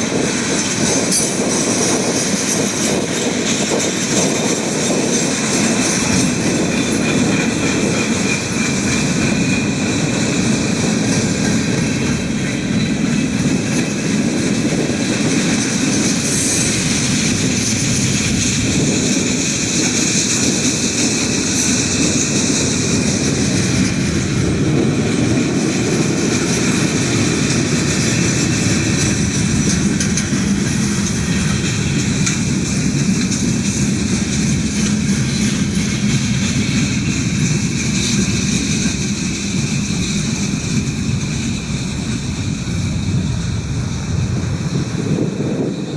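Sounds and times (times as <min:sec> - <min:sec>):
clickety-clack over rail joints: 0:00.0 - 0:45.9
freight train wheels rumbling: 0:00.0 - 0:45.9.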